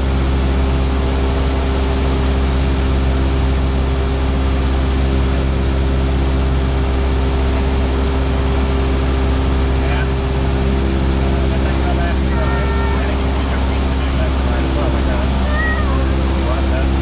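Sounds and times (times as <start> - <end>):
airplane engine and propeller droning: 0.0 - 17.0.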